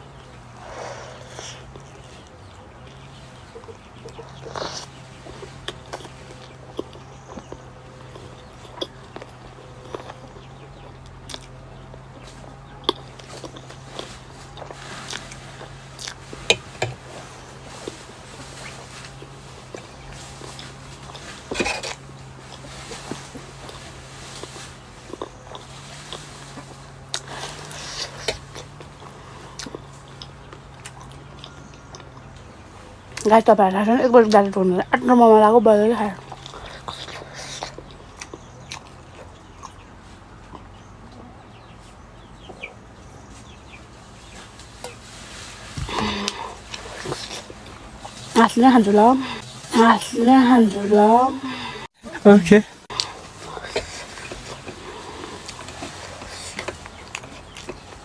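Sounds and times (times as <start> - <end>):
steady low hum: 0.0 - 52.0, 52.6 - 58.0
close chewing and mouth smacks: 0.1 - 33.3, 36.2 - 41.3, 43.4 - 48.4, 52.9 - 58.0.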